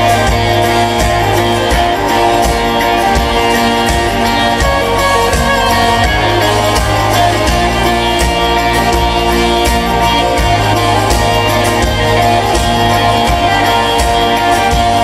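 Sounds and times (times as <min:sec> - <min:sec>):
bass guitar: 0:00.0 - 0:15.0
electric guitar: 0:00.0 - 0:15.0.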